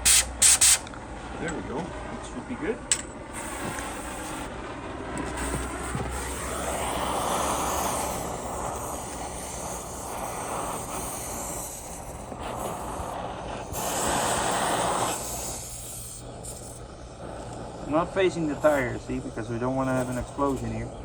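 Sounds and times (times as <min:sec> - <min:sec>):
gas torch flame blowing: 0:00.0 - 0:01.6, 0:02.8 - 0:21.0.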